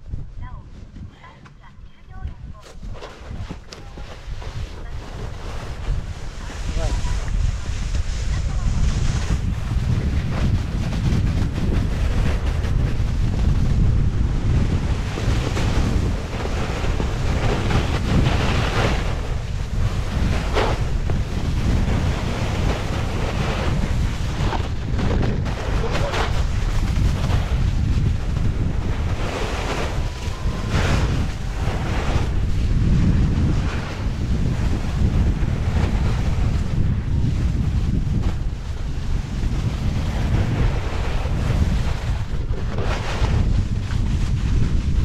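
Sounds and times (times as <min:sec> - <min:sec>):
wind buffeting microphone: 0:00.0 - 0:45.0
snowboard edges scraping snow: 0:02.6 - 0:45.0.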